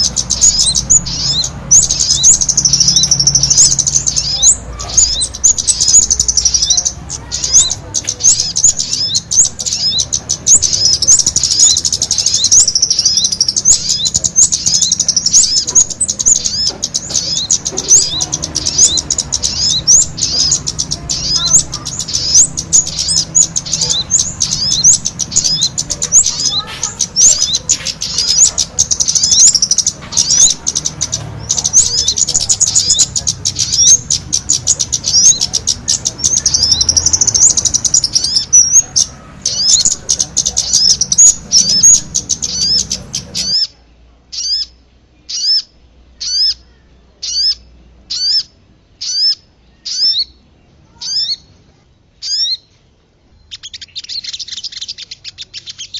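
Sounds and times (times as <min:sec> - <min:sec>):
noisy bird chatter: 0:00.0 - 0:55.9
small birds chirping rapidly: 0:00.0 - 0:55.9.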